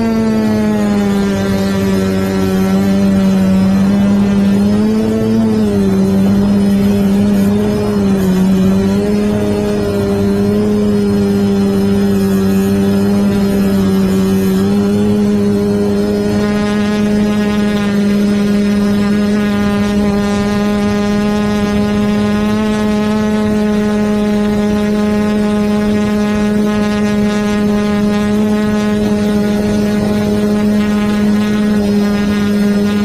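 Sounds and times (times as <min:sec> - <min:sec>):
drone motors buzzing: 0:00.0 - 0:33.0.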